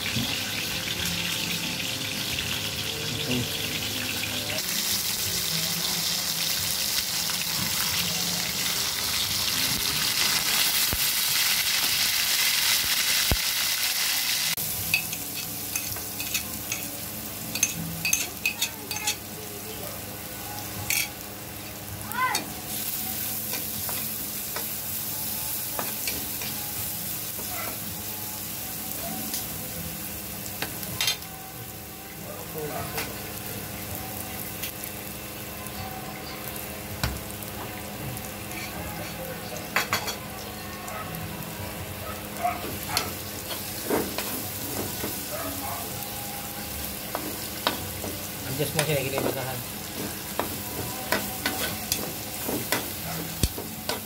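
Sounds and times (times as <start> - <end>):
fish frying in hot oil: 0.0 - 19.8, 20.4 - 54.0
garlic sizzling in oil: 0.0 - 54.0.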